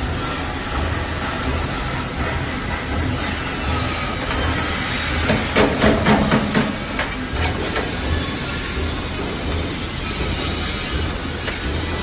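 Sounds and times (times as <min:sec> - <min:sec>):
workshop hiss: 0:00.0 - 0:12.0.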